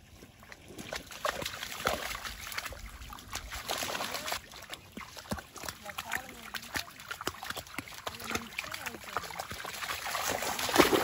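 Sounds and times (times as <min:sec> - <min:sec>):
dogs splashing through water: 0:00.0 - 0:11.0.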